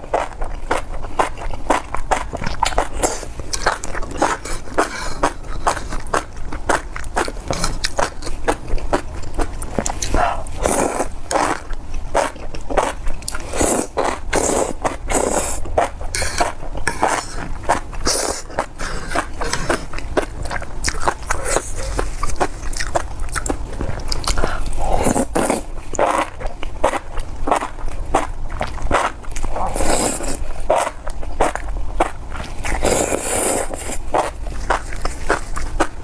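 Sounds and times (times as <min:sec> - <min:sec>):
low steady hum: 0:00.0 - 0:36.0
wet chewing and mouth smacks: 0:00.1 - 0:36.0.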